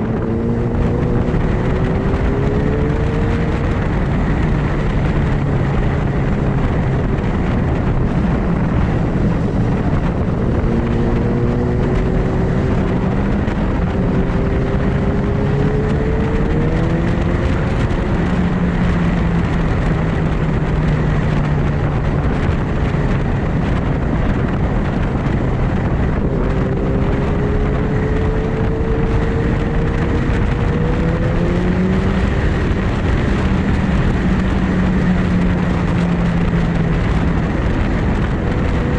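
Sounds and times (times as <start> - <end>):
superbike engine accelerating: 0.0 - 38.9
wind and road rush: 0.0 - 38.9.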